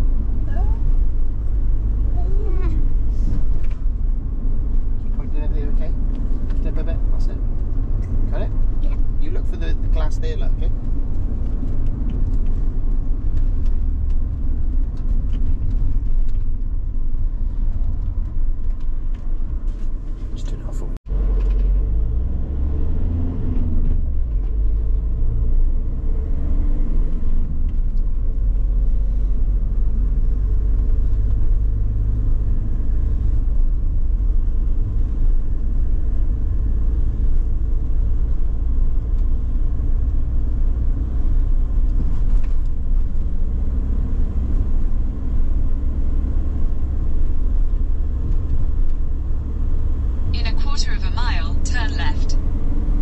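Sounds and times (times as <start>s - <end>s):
diesel van engine rumble: 0.0s - 53.0s
tyre road noise: 0.0s - 53.0s.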